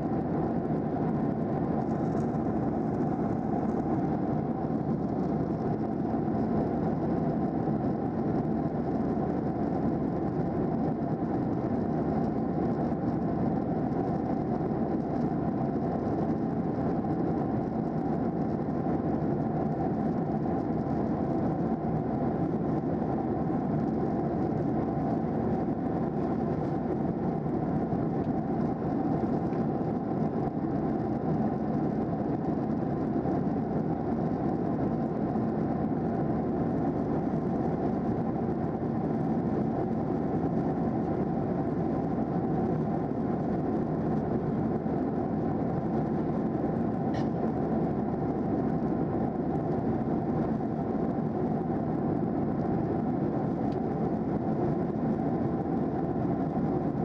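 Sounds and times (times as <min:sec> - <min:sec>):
airplane cabin drone: 0:00.0 - 0:57.0
faint steady hums: 0:00.0 - 0:57.0.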